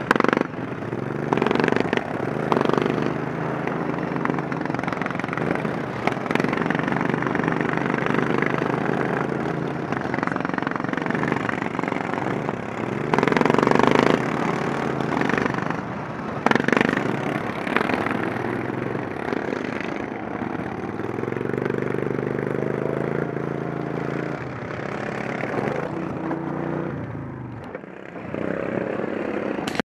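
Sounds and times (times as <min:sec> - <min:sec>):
racing lawn mower engine: 0:00.0 - 0:29.8.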